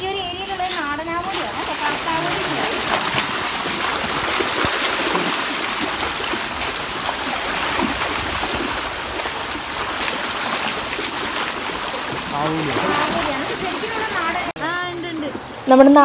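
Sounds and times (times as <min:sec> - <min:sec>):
fish splashing at water surface: 0:01.2 - 0:14.6.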